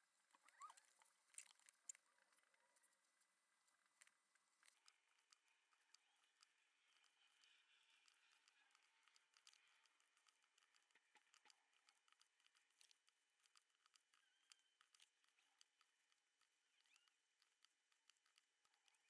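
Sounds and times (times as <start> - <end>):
masking tape ticks and rustles: 0.0 - 19.0.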